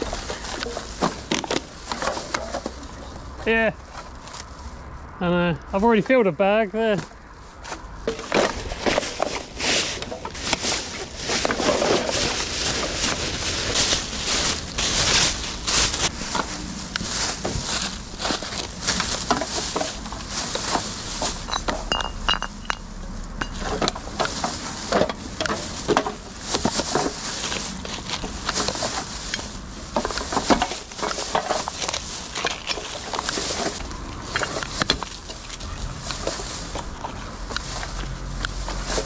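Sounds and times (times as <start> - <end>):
litter picker grabbing cans: 0.0 - 3.1, 7.7 - 22.8, 23.4 - 39.0.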